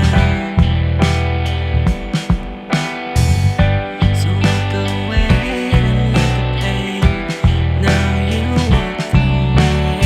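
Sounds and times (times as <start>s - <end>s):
bass notes: 0.0s - 10.0s
drums striking: 0.0s - 10.0s
electric guitar: 0.0s - 10.0s.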